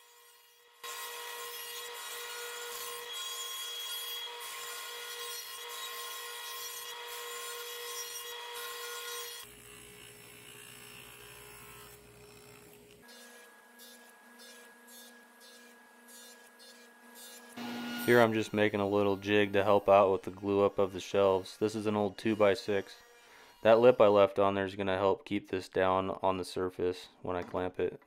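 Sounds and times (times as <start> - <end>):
table saw cutting wood: 0.0 - 24.2.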